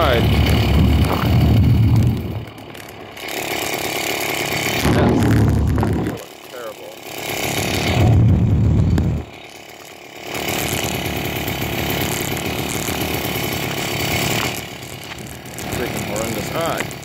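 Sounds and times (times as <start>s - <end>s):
two-stroke engine running: 0.0s - 17.0s.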